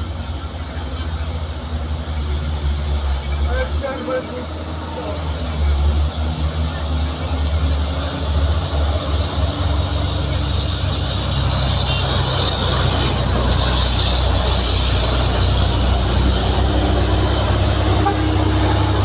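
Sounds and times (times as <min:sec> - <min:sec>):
diesel truck engine drone: 0:00.0 - 0:19.0
road and wind noise: 0:00.0 - 0:19.0.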